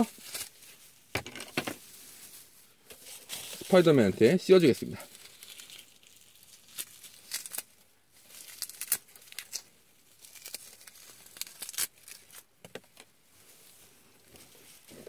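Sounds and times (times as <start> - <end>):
tinsel rustling and crinkling: 0.0 - 12.5, 13.2 - 15.0.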